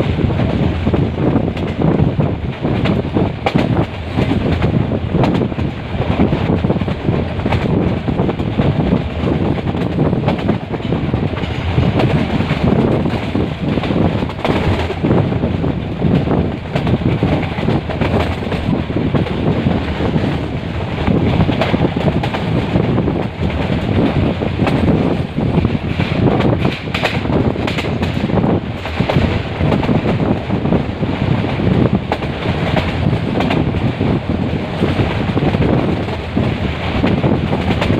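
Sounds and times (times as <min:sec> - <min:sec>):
train knocks and rattles: 0:00.0 - 0:37.9
train rumbling: 0:00.0 - 0:37.9.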